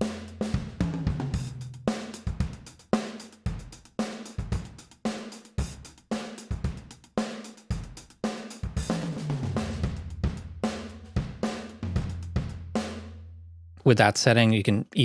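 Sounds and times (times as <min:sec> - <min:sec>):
drum kit groove: 0:00.0 - 0:13.1.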